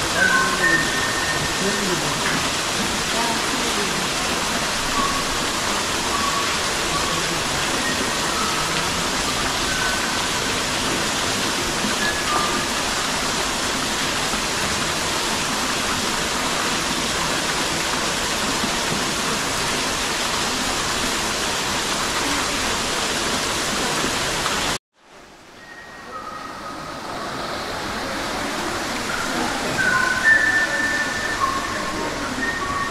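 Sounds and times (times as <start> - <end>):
water falling: 0.0 - 32.9.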